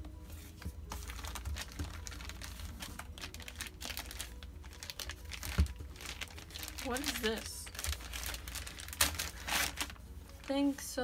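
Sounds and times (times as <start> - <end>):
plastic packaging crinkling: 0.8 - 11.0.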